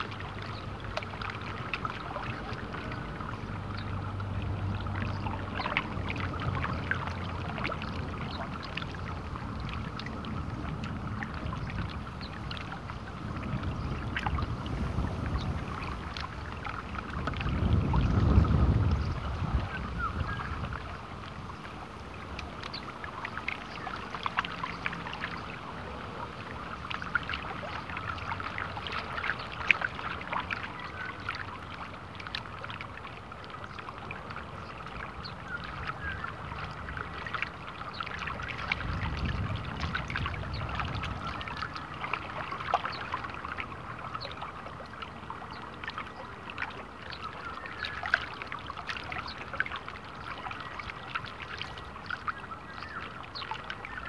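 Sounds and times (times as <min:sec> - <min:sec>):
wind rumble on microphone: 0:00.0 - 0:46.4
small waves lapping at shore: 0:00.0 - 0:54.0.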